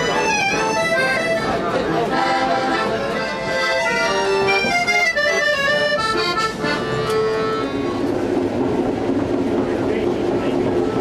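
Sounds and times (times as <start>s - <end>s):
accordion folk music: 0.0s - 9.6s, 10.2s - 11.0s.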